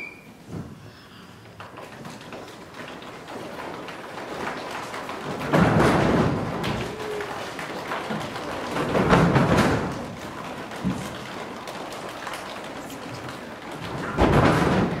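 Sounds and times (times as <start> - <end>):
children's running footsteps: 1.4 - 15.0.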